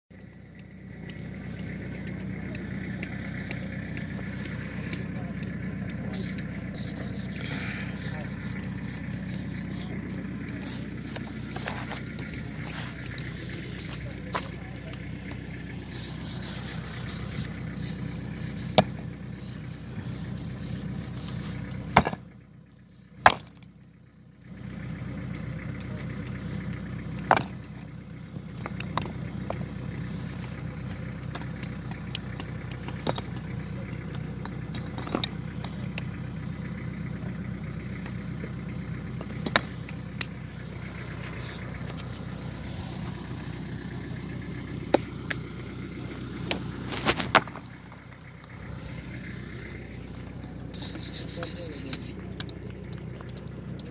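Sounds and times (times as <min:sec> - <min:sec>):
vehicle engine idling: 0:00.1 - 0:53.9.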